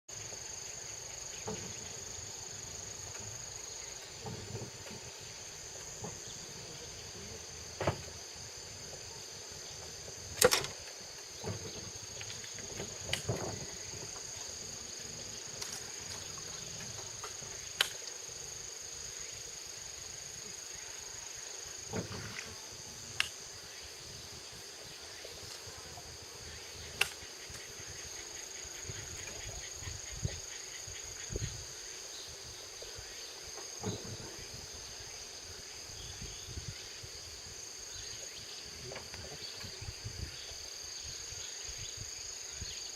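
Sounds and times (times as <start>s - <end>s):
insects calling: 0.1s - 42.9s.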